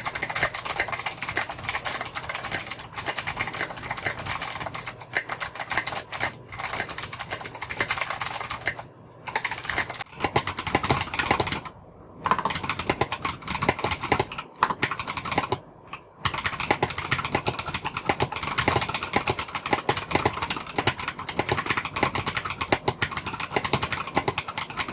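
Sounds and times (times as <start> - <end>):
clicky mechanical keyboard typing: 0.0 - 24.9.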